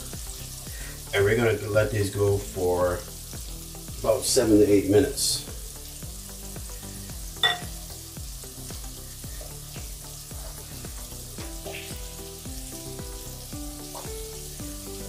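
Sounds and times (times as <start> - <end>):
background music: 0.0 - 15.0
chicken frying in oil: 0.0 - 15.0.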